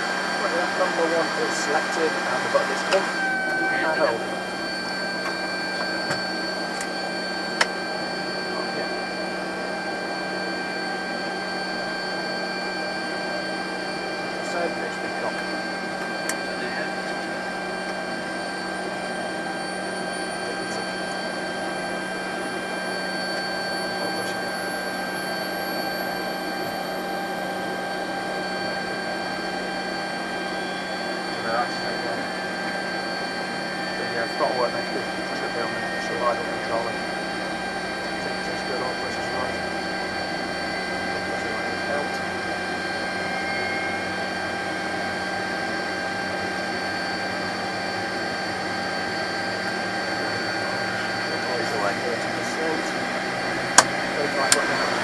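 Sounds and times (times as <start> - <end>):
jet engines rushing and whining: 0.0 - 55.0.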